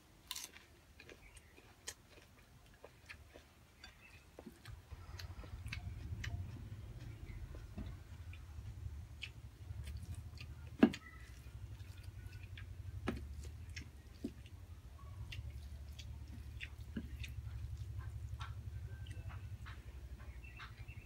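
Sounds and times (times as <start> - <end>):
chewing and wet mouth sounds: 0.3 - 21.0
fingers squishing food: 0.3 - 21.0
steady low hum: 3.2 - 21.0.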